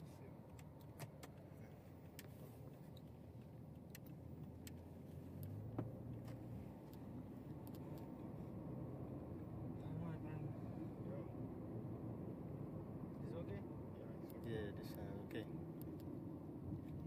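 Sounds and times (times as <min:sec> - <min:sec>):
faint low traffic rumble: 0:00.0 - 0:17.0.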